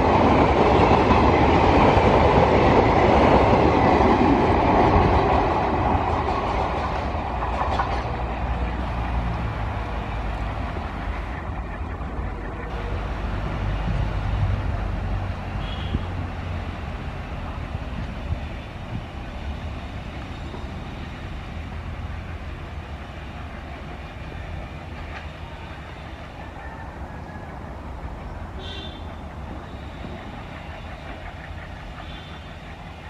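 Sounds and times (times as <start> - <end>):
train wheels rumbling on rails: 0.0 - 33.0
faint clicks of train wheels: 0.4 - 15.2, 17.0 - 33.0.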